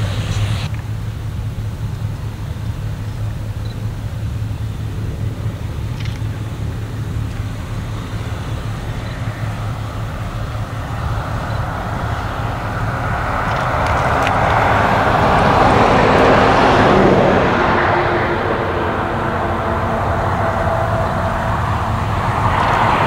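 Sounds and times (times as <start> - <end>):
combine engine drone: 0.0 - 23.0.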